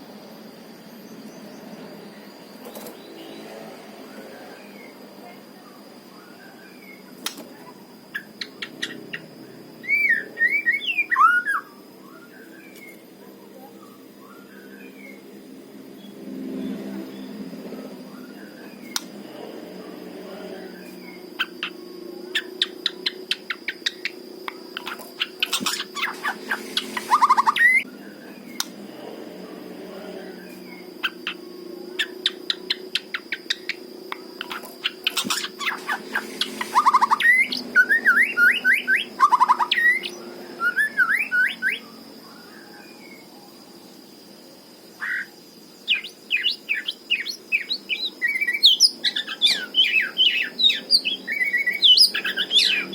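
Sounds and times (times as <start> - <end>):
bird singing: 0.8 - 28.8, 29.4 - 44.2, 44.9 - 52.9.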